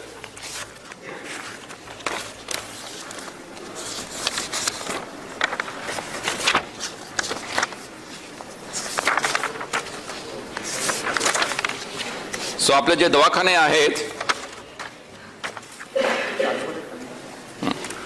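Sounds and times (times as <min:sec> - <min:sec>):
paper rustling: 0:00.0 - 0:15.9.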